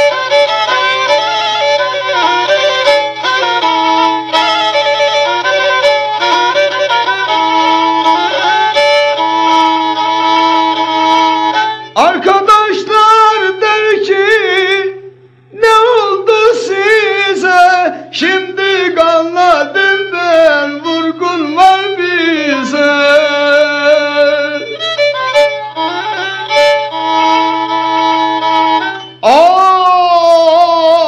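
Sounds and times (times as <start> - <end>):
bowed lute folk melody: 0.0 - 14.9, 17.7 - 29.3.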